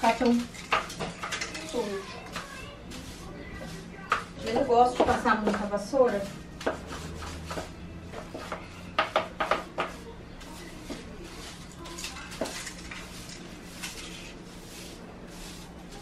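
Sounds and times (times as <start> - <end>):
broom sweeping tiled floor: 0.0 - 16.0.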